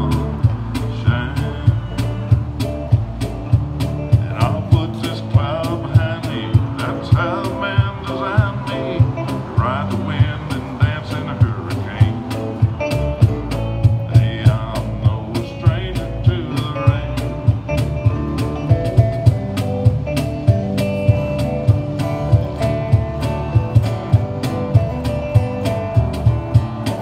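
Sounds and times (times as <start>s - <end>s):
cajon slapped in steady beat: 0.0s - 27.0s
guitar playing country song: 0.0s - 27.0s.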